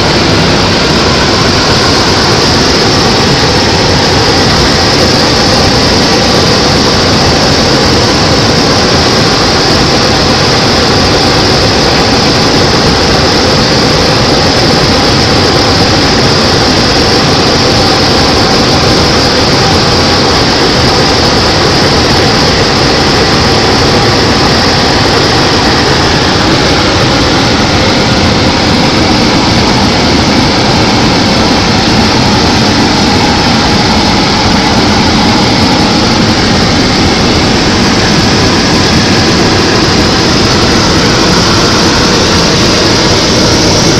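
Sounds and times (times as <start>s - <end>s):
propeller aircraft engine drone: 0.0s - 43.9s.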